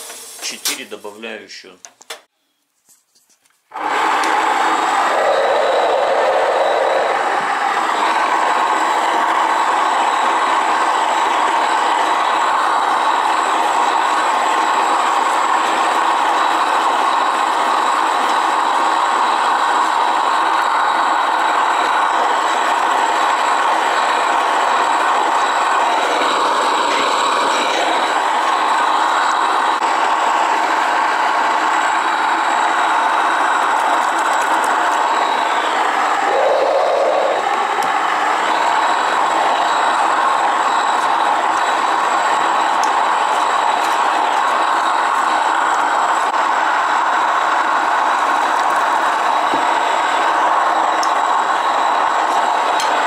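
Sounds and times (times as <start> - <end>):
electric grain mill grinding: 3.7 - 53.0
high whine: 3.7 - 53.0.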